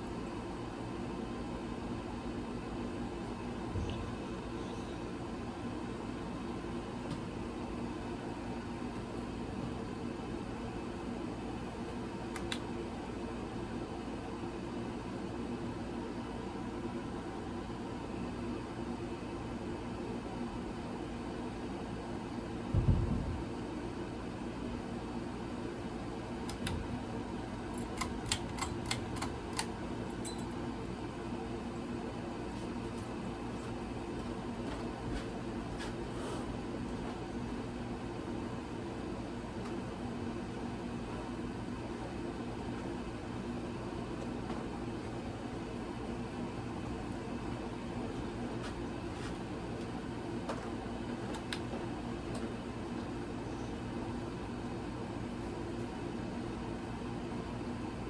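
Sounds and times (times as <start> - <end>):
ceiling fan humming: 0.0 - 58.0.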